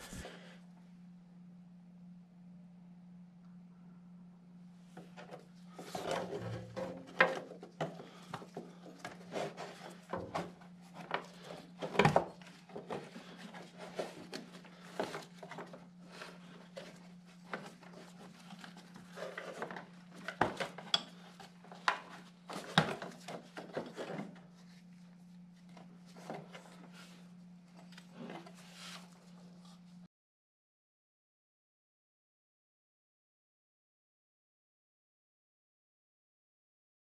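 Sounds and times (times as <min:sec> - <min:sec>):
steady low hum: 0:00.0 - 0:30.1.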